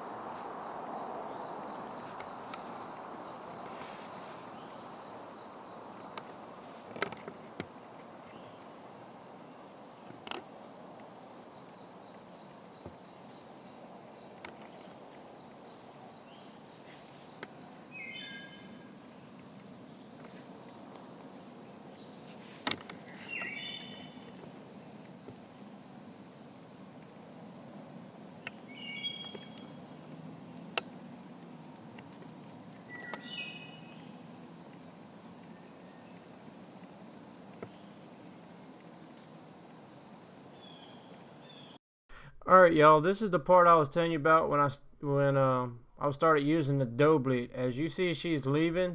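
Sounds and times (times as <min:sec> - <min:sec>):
insect chorus drone: 0:00.0 - 0:41.8
songbird singing: 0:00.0 - 0:41.8.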